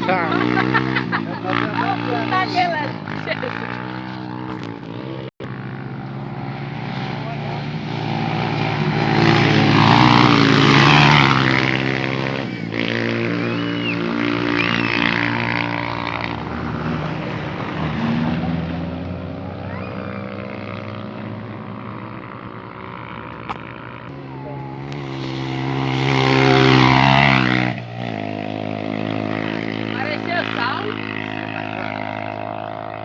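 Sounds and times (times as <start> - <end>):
motocross motorcycle engines: 0.0 - 33.0.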